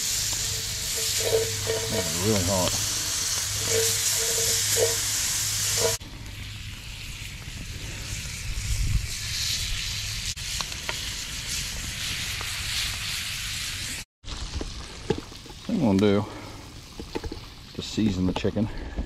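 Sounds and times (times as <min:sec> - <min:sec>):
butter sizzling in a skillet: 0:00.0 - 0:18.3.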